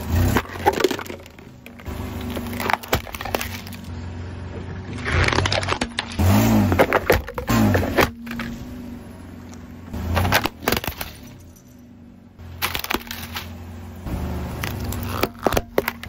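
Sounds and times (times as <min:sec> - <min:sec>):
objects crunching under car tyre: 0:00.0 - 0:11.6, 0:12.4 - 0:13.7, 0:14.5 - 0:16.0.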